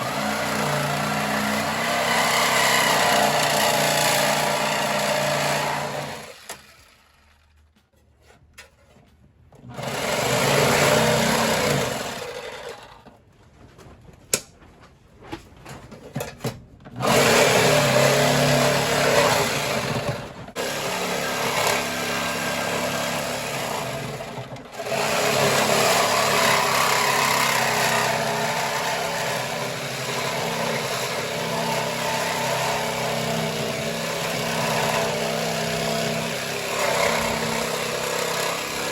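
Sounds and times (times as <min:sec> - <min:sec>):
power tool motor running: 0:00.0 - 0:07.4, 0:09.8 - 0:12.9, 0:17.0 - 0:38.9.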